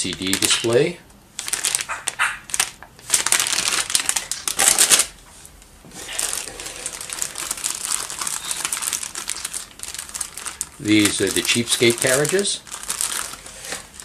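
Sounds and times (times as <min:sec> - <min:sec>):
plastic bags crinkling: 0:00.0 - 0:05.2, 0:05.9 - 0:14.0.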